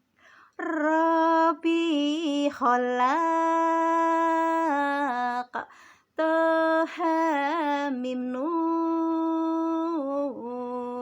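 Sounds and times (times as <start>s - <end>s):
woman singing unaccompanied: 0.5s - 11.0s.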